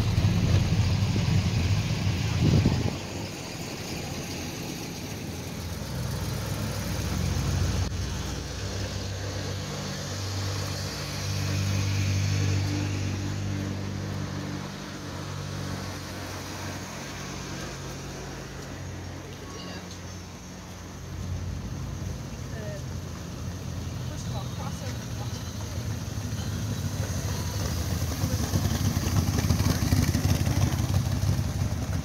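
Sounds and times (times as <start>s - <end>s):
cars driving past: 0.0s - 32.0s.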